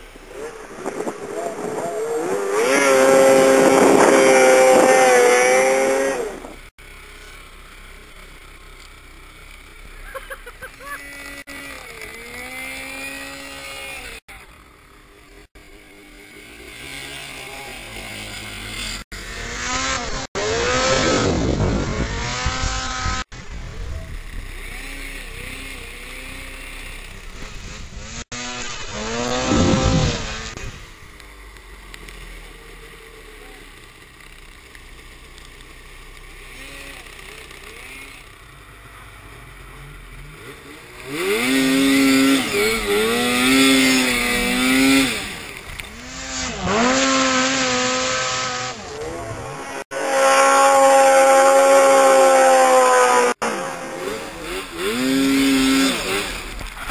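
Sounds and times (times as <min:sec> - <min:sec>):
snowmobile engines revving: 0:00.0 - 0:56.9.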